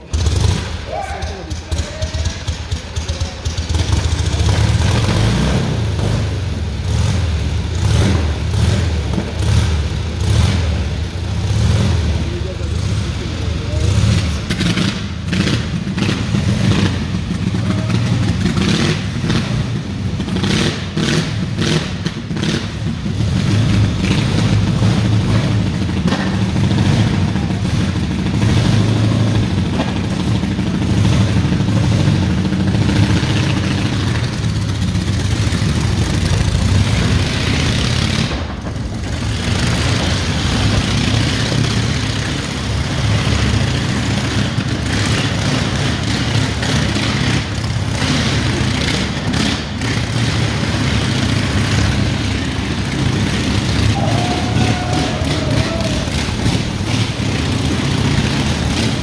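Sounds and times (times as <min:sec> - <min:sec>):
engine popping and crackling: 0:00.0 - 0:59.0
motorcycle engine revving: 0:00.0 - 0:59.0.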